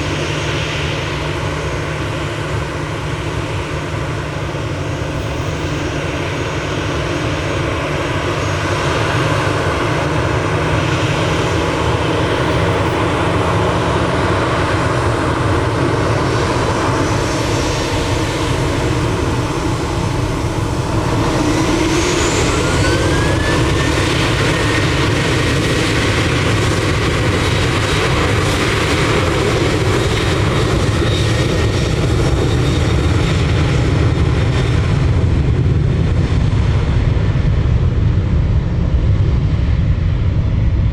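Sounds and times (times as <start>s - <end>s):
rising engine whine: 0.0s - 37.9s
jet engines running: 0.0s - 40.9s.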